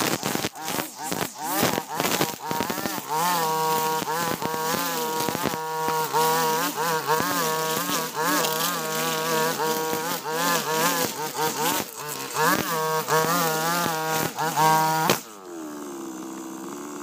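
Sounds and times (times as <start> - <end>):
brush cutter engine cutting grass: 0.0 - 17.0.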